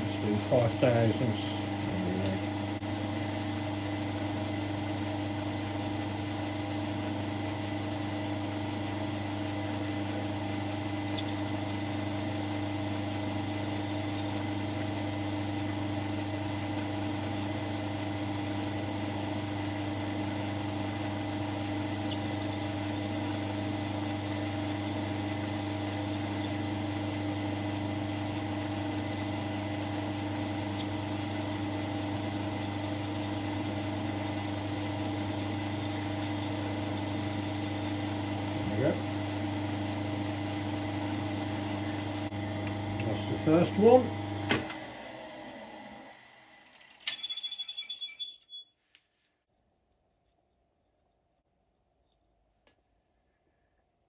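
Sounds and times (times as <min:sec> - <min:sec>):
lathe motor hum: 0:00.0 - 0:47.1.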